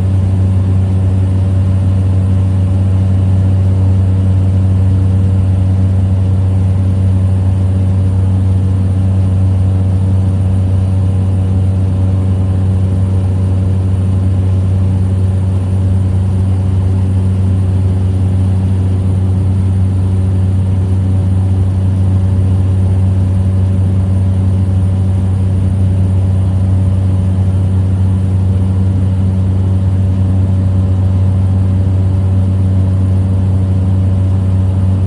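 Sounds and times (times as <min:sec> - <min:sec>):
small plane engine droning: 0:00.0 - 0:35.0.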